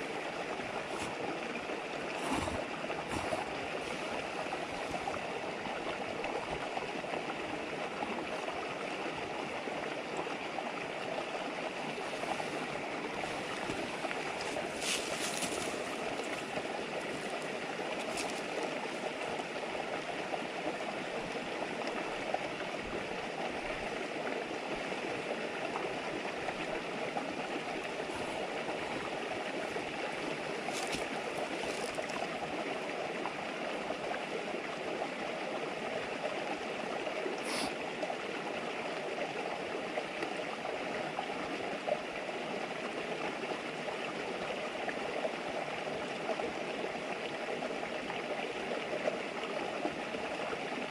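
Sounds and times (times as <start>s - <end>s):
river flowing: 0.0s - 50.9s.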